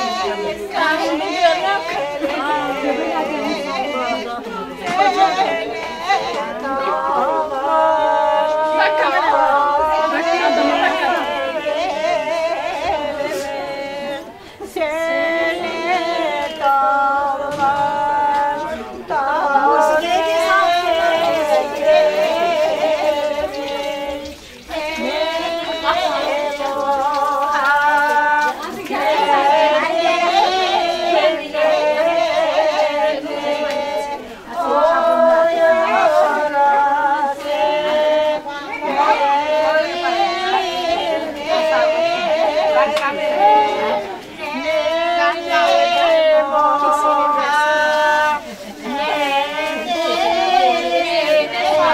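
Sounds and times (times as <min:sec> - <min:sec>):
woman singing unaccompanied: 0:00.0 - 0:51.9.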